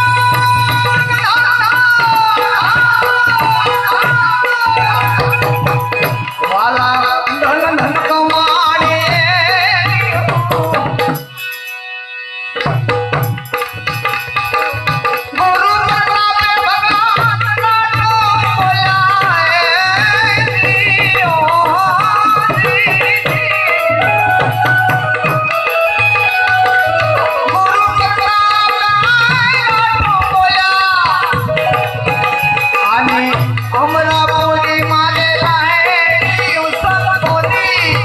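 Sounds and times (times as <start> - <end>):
tabla beating steady rhythm: 0.0 - 38.0.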